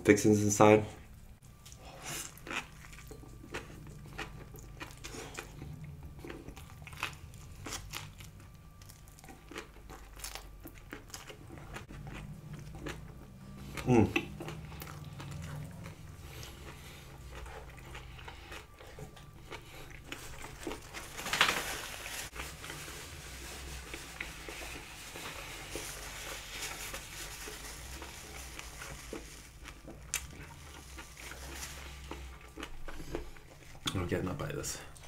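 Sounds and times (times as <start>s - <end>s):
low steady hum: 0.0s - 35.0s
person chewing: 1.5s - 21.1s, 22.3s - 34.0s.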